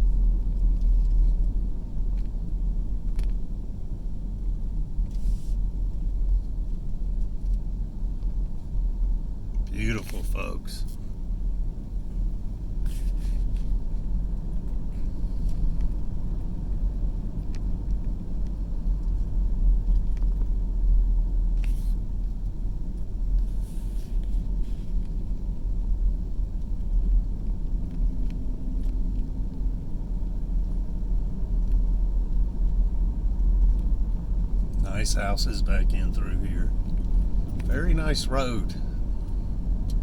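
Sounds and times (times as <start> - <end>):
car driving on road: 0.0 - 40.0.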